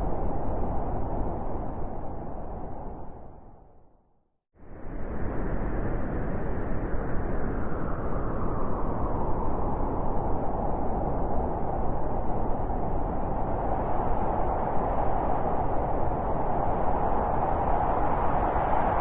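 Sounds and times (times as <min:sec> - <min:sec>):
rushing wind: 0:00.0 - 0:03.8, 0:04.6 - 0:19.0.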